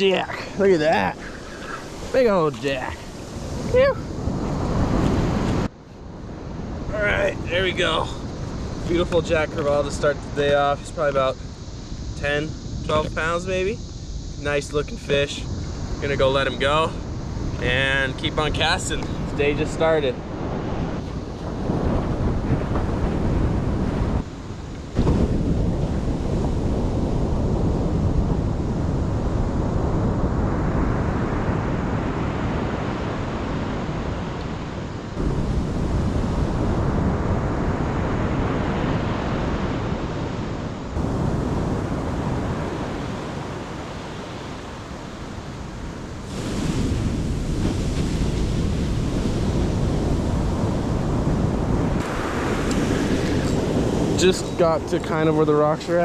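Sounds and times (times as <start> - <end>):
ocean surf breaking: 0.0 - 5.7, 16.6 - 56.0
wind buffeting microphone: 0.0 - 56.0.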